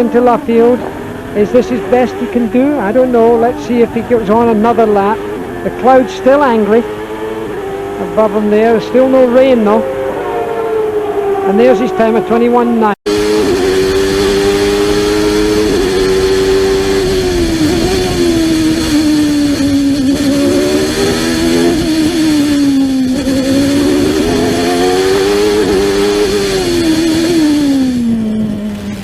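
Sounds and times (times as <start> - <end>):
racing car engine revving: 0.0 - 29.0.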